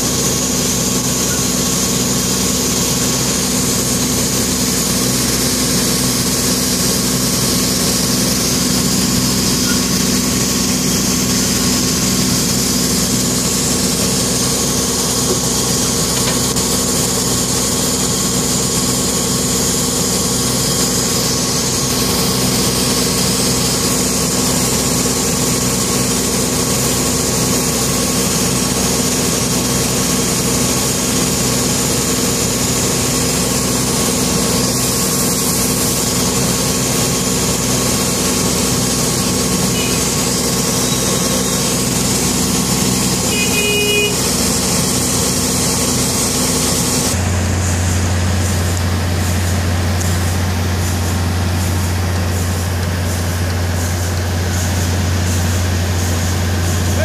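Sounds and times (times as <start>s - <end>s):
heavy machinery drone: 0.0s - 57.0s.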